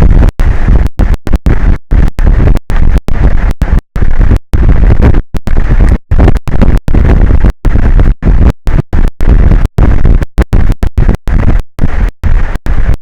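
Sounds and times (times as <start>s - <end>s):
distorted rushing microphone noise: 0.0s - 13.0s.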